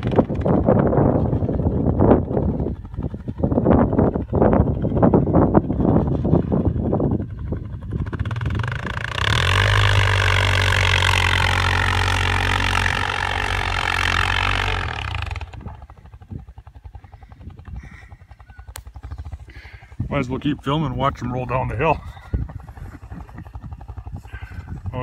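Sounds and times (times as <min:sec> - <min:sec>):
quad engine running at high revs: 0:00.0 - 0:25.0.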